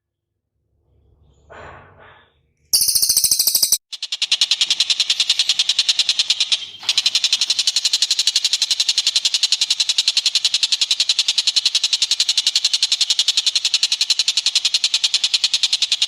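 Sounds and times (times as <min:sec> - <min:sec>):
bird calling in fast high trill: 0:02.8 - 0:16.0.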